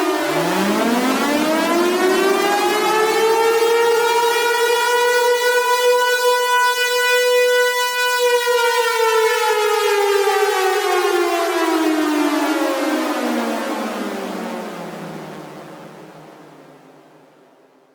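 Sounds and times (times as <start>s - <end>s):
warning siren wailing: 0.0s - 16.7s.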